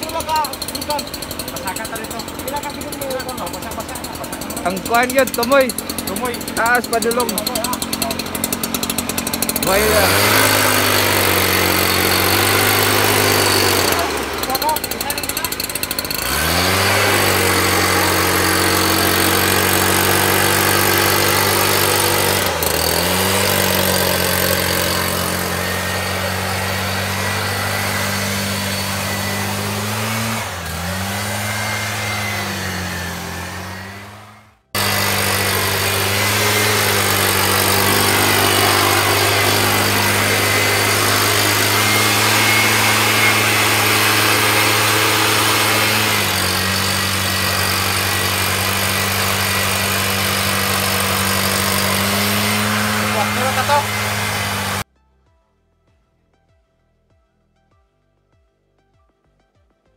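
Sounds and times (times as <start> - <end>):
mist blower engine running: 0.0 - 54.9.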